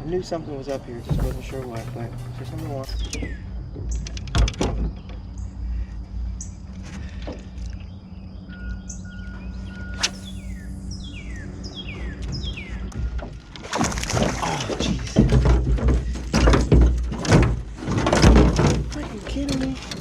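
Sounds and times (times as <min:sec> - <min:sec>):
birds chirping: 0:00.0 - 0:16.9
steady low rumble: 0:00.0 - 0:20.0.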